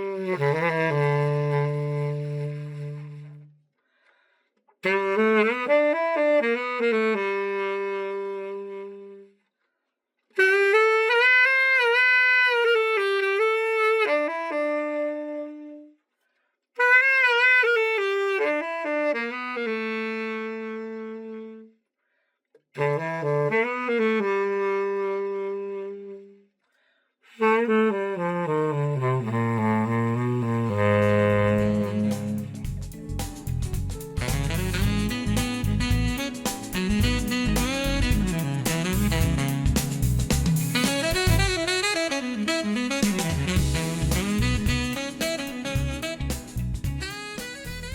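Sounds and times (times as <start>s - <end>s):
tenor saxophone melody: 0.0s - 3.5s, 4.8s - 9.4s, 10.4s - 16.0s, 16.8s - 21.8s, 22.8s - 26.4s, 27.3s - 47.9s.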